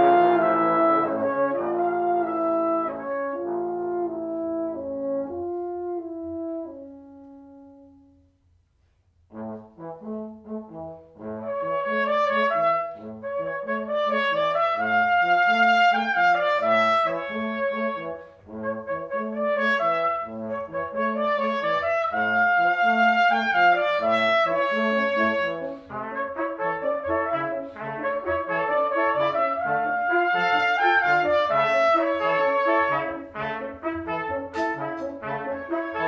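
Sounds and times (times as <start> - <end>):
trombone low repeated line: 0.0 - 8.3, 9.3 - 36.0
trumpet melody: 0.0 - 8.4, 9.3 - 36.0
french horn: 0.0 - 36.0.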